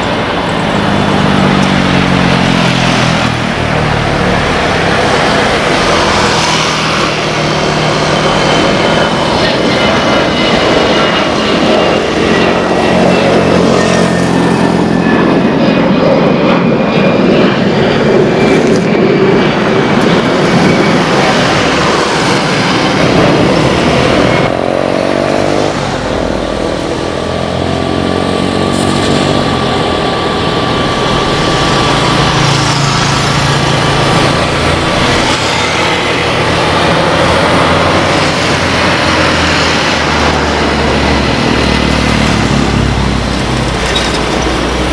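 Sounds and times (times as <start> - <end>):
jet airliner climbing away: 0.0 - 44.9
jet engines at takeoff power: 0.0 - 44.9.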